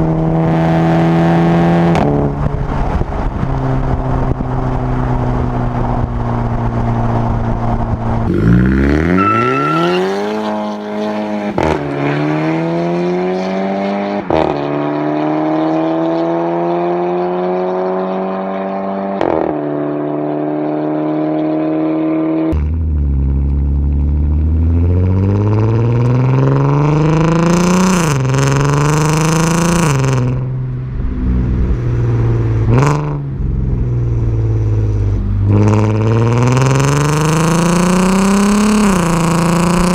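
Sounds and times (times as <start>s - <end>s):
car engine revving through gears: 0.0s - 39.9s
exhaust cracks at upshifts: 0.0s - 39.9s.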